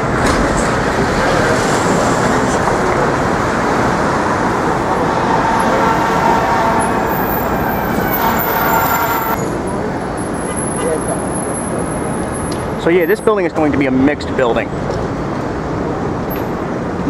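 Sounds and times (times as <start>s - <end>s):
city street traffic: 0.0s - 17.0s
vehicle whine: 0.0s - 17.0s.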